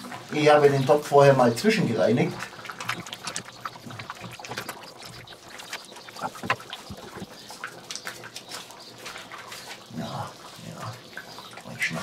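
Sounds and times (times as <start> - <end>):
wet sloshing stew: 0.0 - 12.0.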